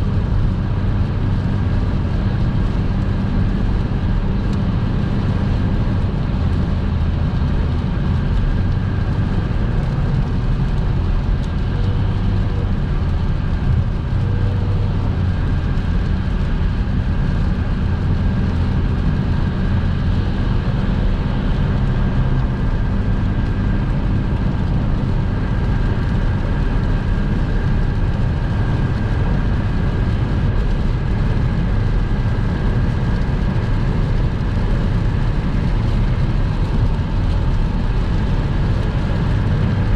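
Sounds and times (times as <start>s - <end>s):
low engine hum: 0.0s - 39.9s
tyre and road noise: 0.0s - 39.9s.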